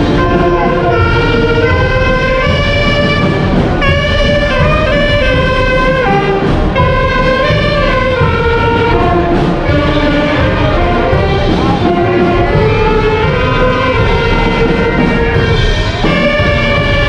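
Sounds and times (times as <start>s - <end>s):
music with held melody notes: 0.0s - 17.0s.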